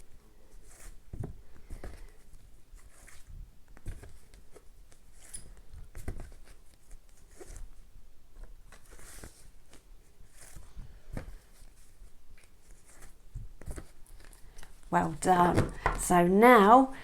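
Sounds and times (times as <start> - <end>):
flashcards flipping: 0.6 - 7.7, 8.4 - 16.0.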